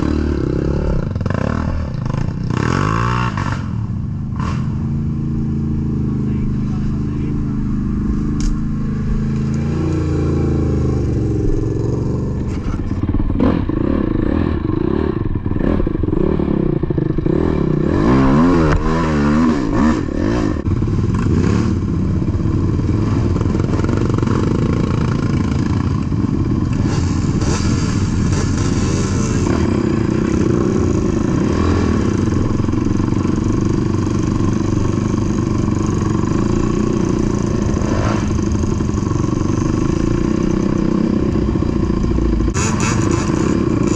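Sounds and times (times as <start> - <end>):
atv engine revving: 0.0 - 43.9.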